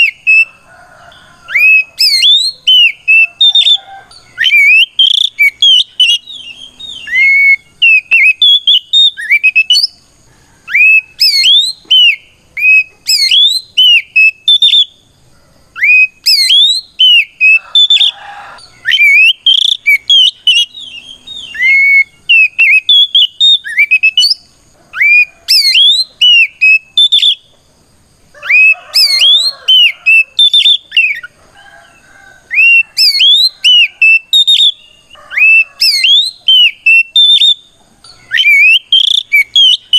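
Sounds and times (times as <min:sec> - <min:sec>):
bird singing sharp whistled notes: 0:01.5 - 0:10.0, 0:10.7 - 0:15.0, 0:15.8 - 0:24.4, 0:25.0 - 0:27.4, 0:28.6 - 0:31.3, 0:32.5 - 0:39.9.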